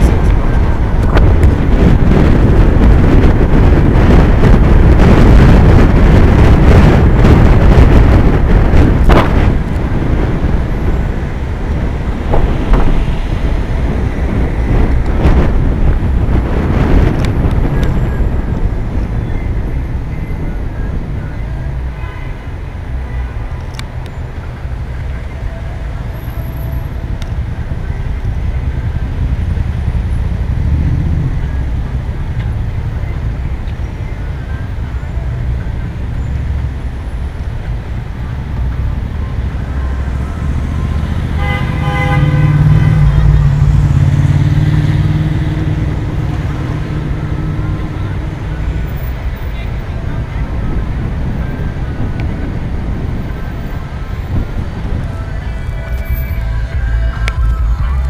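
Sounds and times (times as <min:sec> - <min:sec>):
road and traffic rumble: 0:00.0 - 0:58.0.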